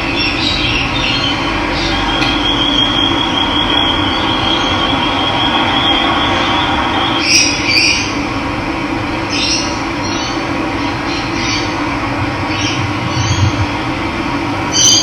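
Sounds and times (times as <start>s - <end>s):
birds chirping: 0.0s - 8.2s, 9.3s - 15.0s.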